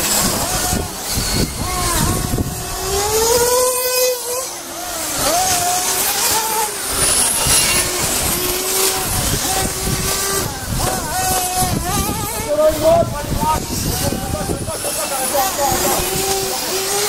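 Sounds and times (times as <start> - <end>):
model racing car motors whining: 0.0 - 17.0.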